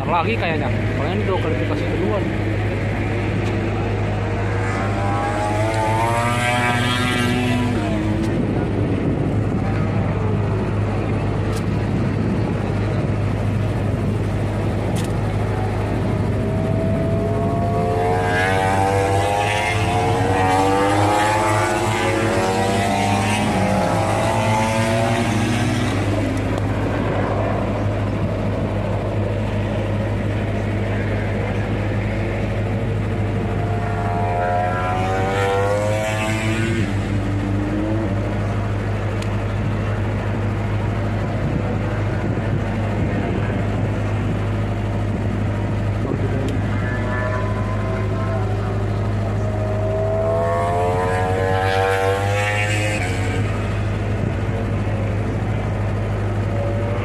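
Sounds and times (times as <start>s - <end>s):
steady low rumble: 0.0s - 35.0s, 36.3s - 51.6s, 53.0s - 57.0s
racing motorcycles passing: 0.0s - 57.0s.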